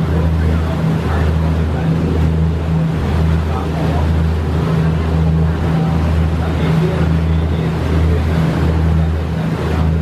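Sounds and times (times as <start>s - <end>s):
motor boat engine droning: 0.0s - 10.0s
water churning in wake: 0.0s - 10.0s.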